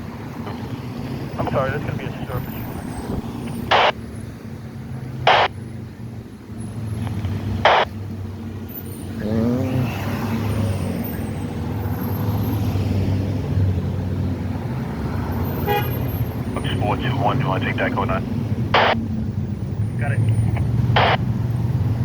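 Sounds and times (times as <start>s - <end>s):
motor vehicle running: 0.0s - 22.0s.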